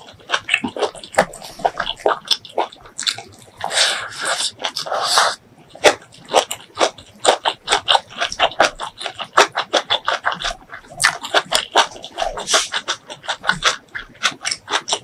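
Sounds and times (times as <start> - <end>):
close chewing with lip smacks: 0.0 - 15.0.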